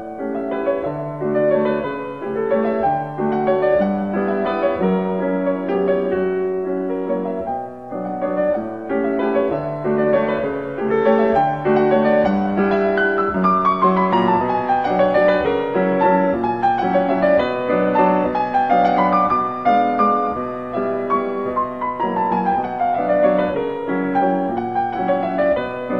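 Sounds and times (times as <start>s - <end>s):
piano music: 0.0s - 25.9s.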